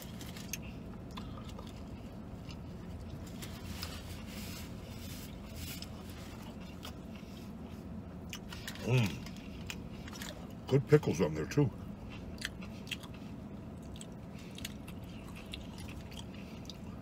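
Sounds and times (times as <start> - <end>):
quiet chewing: 0.0 - 10.7, 12.0 - 17.0
low vehicle cabin hum: 0.0 - 17.0.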